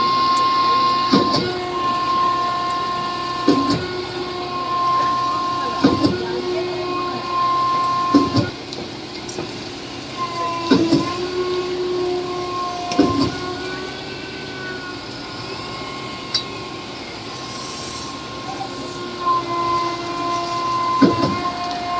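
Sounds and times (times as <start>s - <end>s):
machinery metallic squealing: 0.0s - 21.9s.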